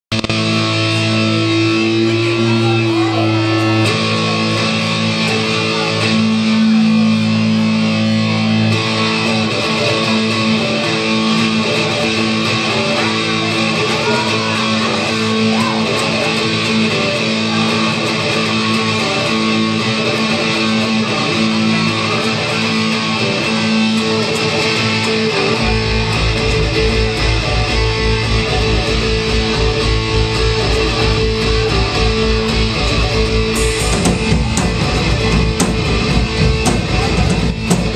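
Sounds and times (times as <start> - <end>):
pulsing bass: 0.1 - 37.9
rock band playing: 0.1 - 37.9.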